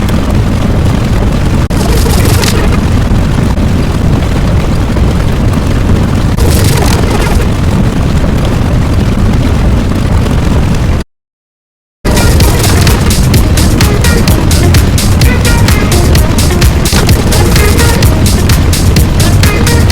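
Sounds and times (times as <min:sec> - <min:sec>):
loud continuous rumbling: 0:00.0 - 0:11.0, 0:12.0 - 0:19.9.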